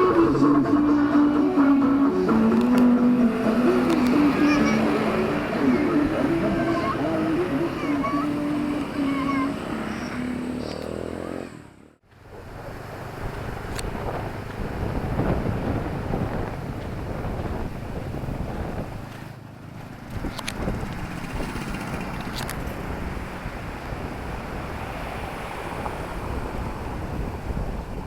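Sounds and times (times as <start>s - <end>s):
vehicle engine running: 0.0s - 24.4s
street traffic noise: 0.0s - 28.0s.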